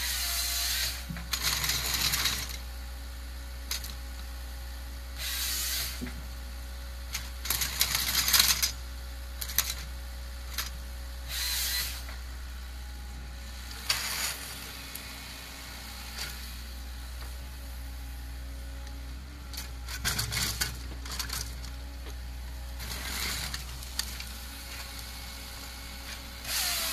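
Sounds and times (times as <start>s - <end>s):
forestry machine droning: 0.0s - 26.9s.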